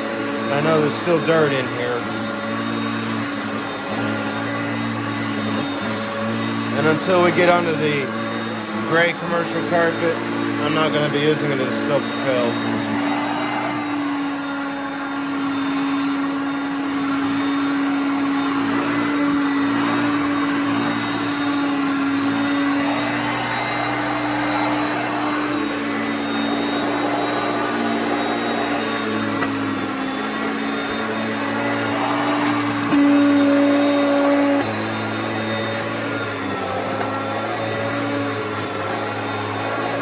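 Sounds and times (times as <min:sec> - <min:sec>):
vacuum cleaner motor whine: 0:00.0 - 0:40.0.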